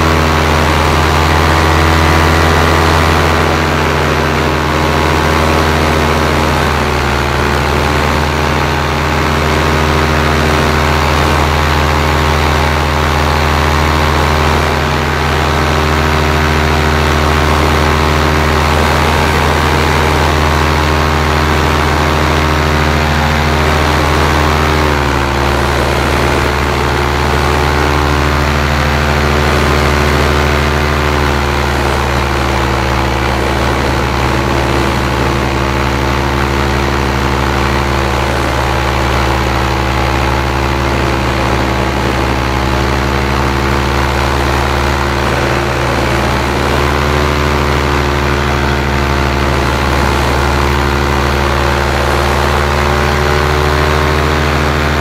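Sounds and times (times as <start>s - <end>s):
paramotor engine and propeller: 0.0s - 55.0s.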